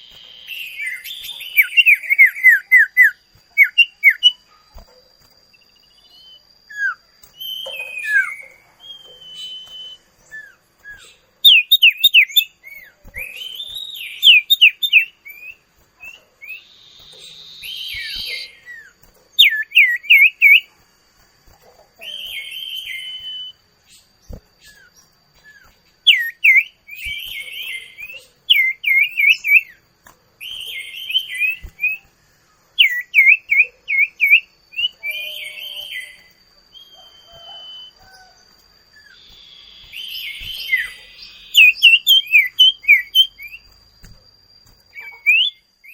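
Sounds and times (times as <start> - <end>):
bird whistled song: 0.0 - 20.8, 21.4 - 45.9
faint steady high tone: 0.0 - 45.9.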